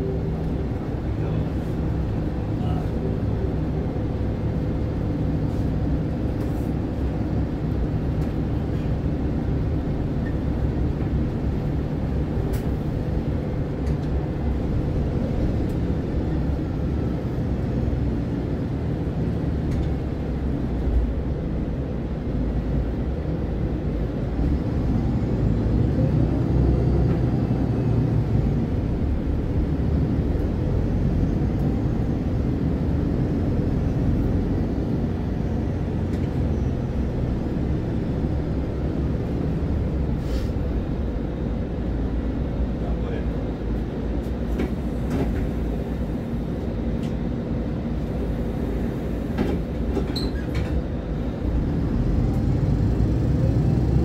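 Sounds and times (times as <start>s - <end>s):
bus engine rumbling: 0.0s - 54.0s.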